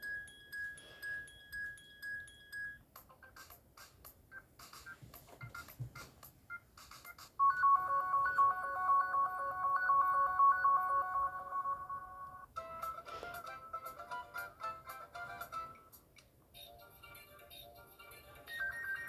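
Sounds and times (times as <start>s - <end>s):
phone ringtone melody: 0.0s - 3.6s, 4.3s - 15.8s, 16.6s - 19.0s.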